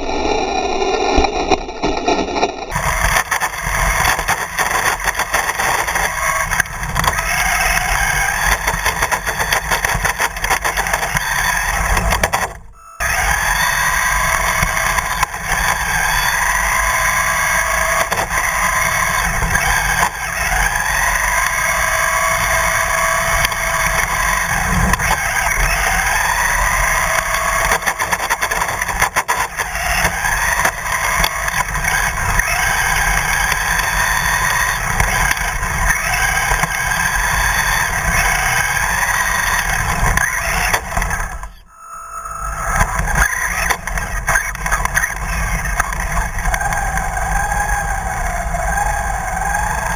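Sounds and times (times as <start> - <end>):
remote-control car motor whining: 0.0 - 49.9
tyres rumbling on road: 2.7 - 41.5, 42.8 - 49.9.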